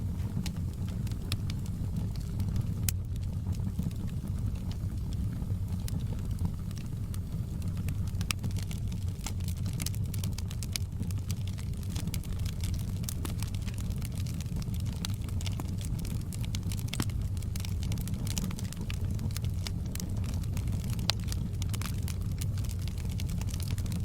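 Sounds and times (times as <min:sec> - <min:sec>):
logs crackling and popping: 0:00.0 - 0:24.0
low roar of flames: 0:00.0 - 0:24.0.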